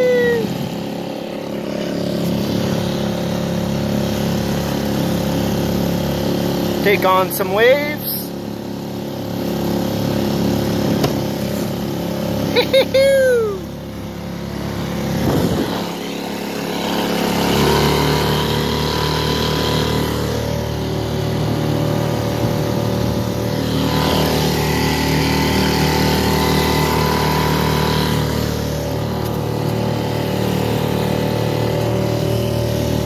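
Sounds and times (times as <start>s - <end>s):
small boat motor running: 0.0s - 33.0s
water splashing along hull: 0.0s - 33.0s.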